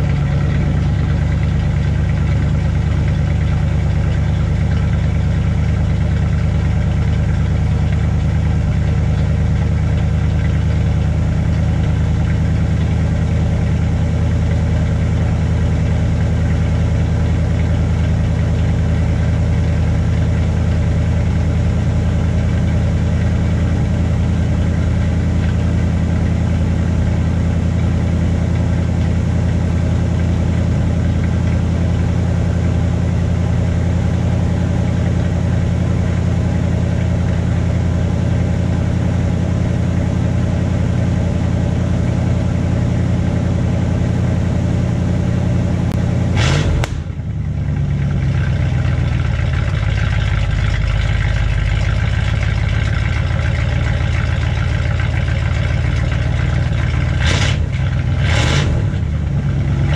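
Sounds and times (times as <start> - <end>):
pickup engine idling: 0.0 - 59.9.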